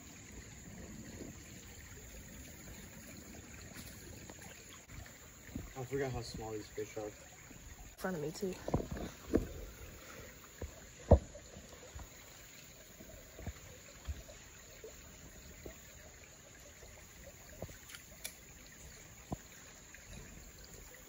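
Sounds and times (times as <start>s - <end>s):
creek water trickling: 0.0s - 21.0s.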